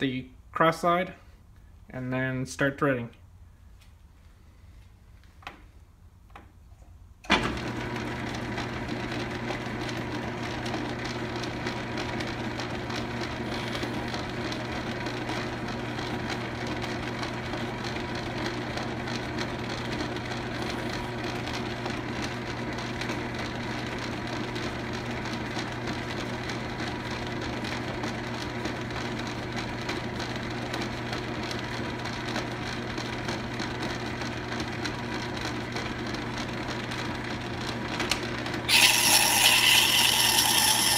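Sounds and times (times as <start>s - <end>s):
lathe humming and rattling: 7.3s - 40.9s.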